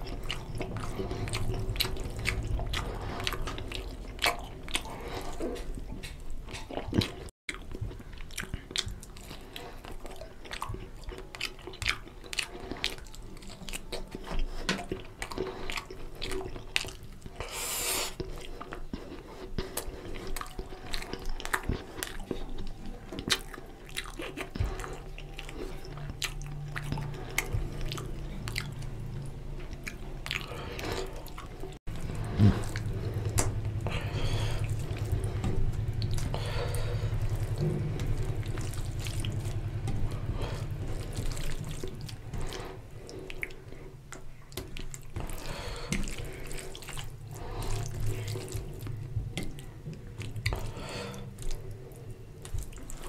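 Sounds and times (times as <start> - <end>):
low steady hum: 0.0 - 53.0
wet chewing and lip smacks: 0.0 - 53.0.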